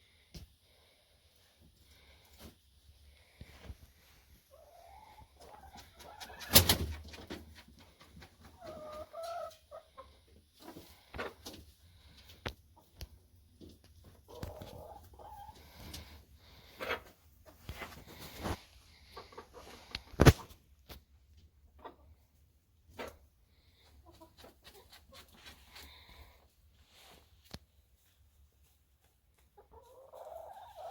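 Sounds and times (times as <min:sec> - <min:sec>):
chickens clucking softly: 0:03.6 - 0:26.4, 0:27.5 - 0:30.9.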